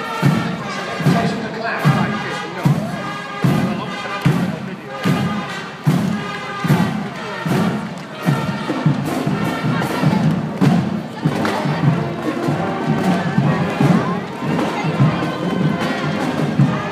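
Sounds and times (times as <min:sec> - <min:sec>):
heavy drum beat: 0:00.0 - 0:16.9
marching band brass: 0:00.0 - 0:16.9.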